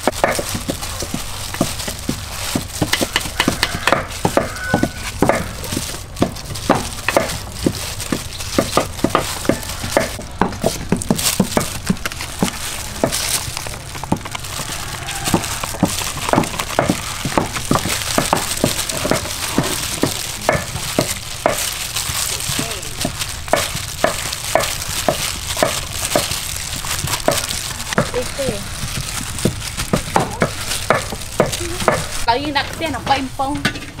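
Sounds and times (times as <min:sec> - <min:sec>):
flour rustling: 0:00.0 - 0:33.4.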